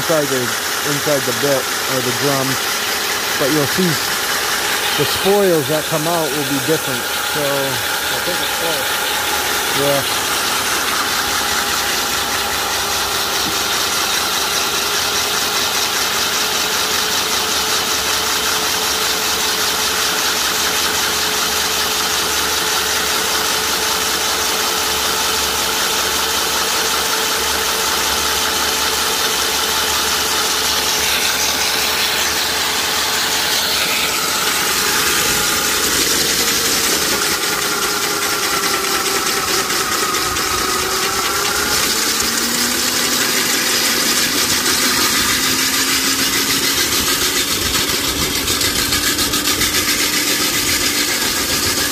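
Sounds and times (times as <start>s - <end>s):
core drill grinding asphalt: 0.0s - 51.9s.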